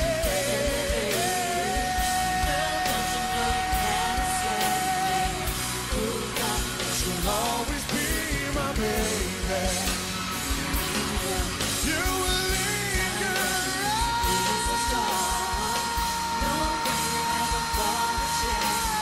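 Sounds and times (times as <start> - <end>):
rock band playing pop ballad: 0.0 - 19.0
steady drum beat: 0.0 - 19.0.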